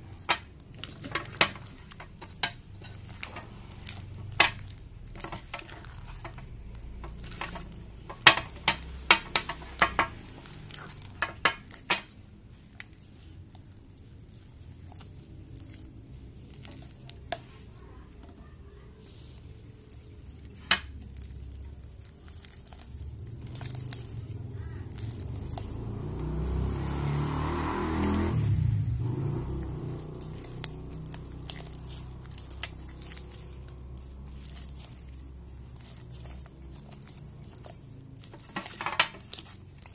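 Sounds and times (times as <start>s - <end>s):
slime being kneaded by hand: 0.0s - 39.9s.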